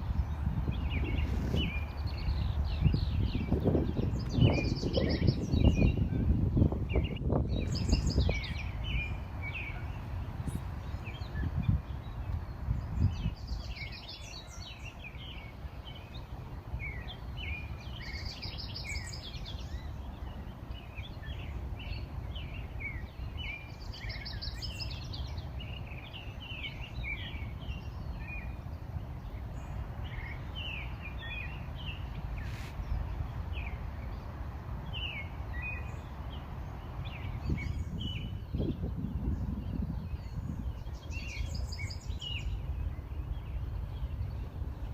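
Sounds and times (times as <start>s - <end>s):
fast trilled birdsong: 0.0s - 44.9s
songbirds chirping: 0.0s - 44.9s.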